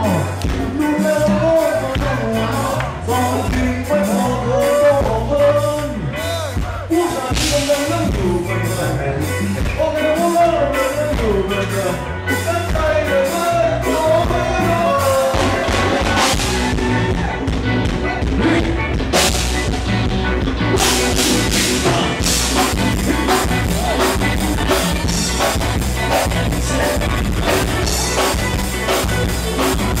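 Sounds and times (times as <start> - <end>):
person singing: 0.0 - 19.7, 20.7 - 30.0
bass and drums: 0.0 - 30.0.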